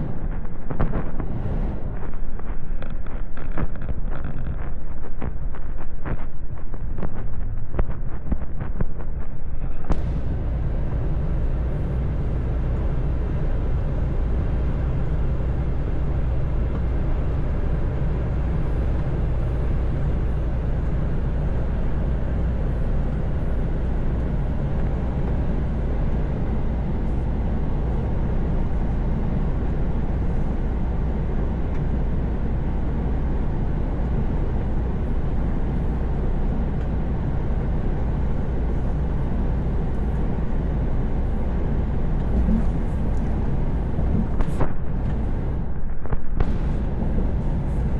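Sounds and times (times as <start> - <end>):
truck engine drone: 0.0 - 47.9
tyre and road noise: 0.0 - 47.9.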